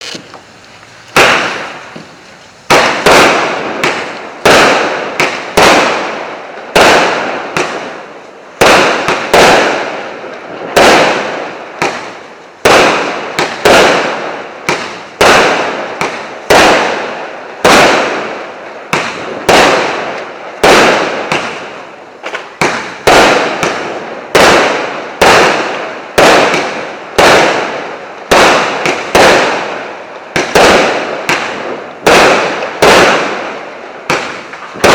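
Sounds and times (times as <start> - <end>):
fireworks bangs: 0.0 - 34.9.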